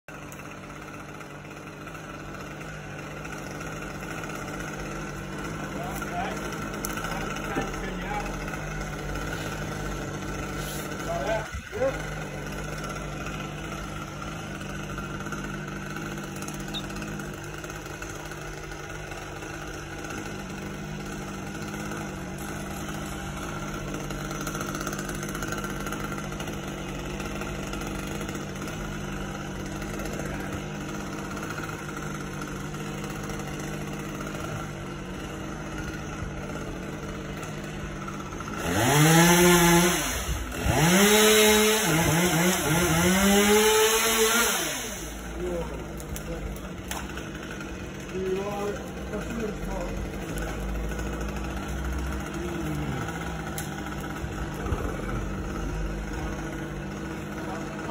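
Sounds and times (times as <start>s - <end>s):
chainsaw engine idling and revving: 0.0s - 57.9s.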